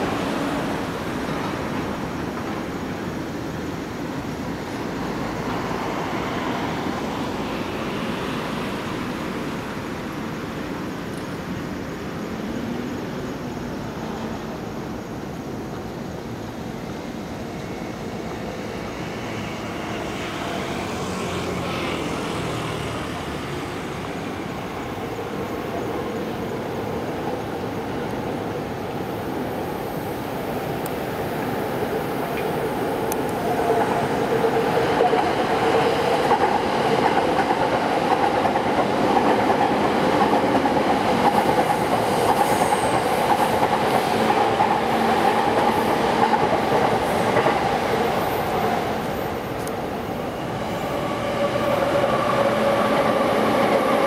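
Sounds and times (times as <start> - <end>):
city traffic: 0.0 - 54.0
train wheels rumbling on rails: 0.0 - 54.0.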